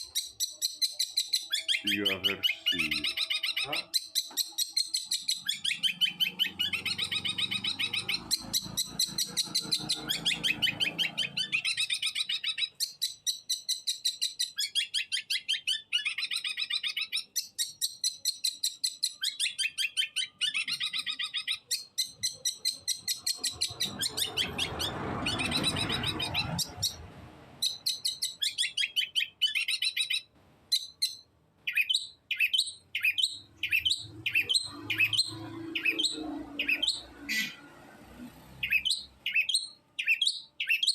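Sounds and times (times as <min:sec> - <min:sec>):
shrike chattering song: 0:00.0 - 0:37.9.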